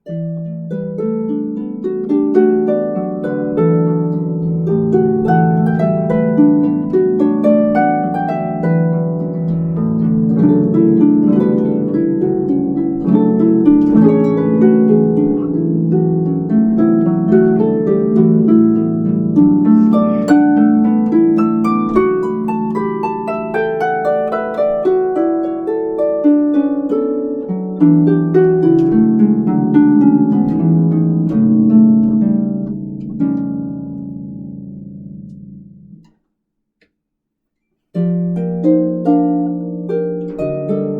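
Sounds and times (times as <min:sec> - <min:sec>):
harp playing: 0:00.0 - 0:36.1, 0:37.9 - 0:40.9.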